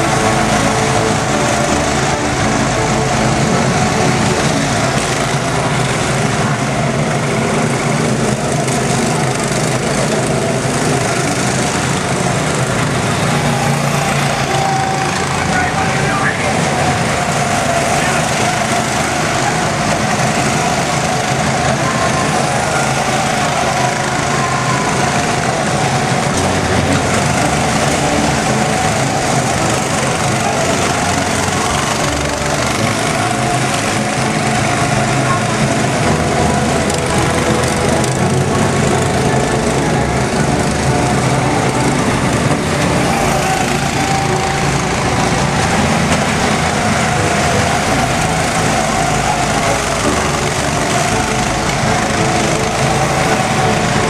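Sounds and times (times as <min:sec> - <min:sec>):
go-kart engines droning: 0:00.0 - 0:54.0.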